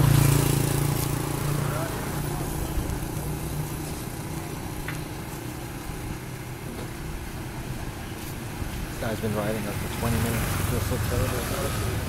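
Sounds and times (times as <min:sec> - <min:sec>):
street traffic rumble: 0:00.0 - 0:12.0
vehicle engine humming: 0:00.0 - 0:12.0.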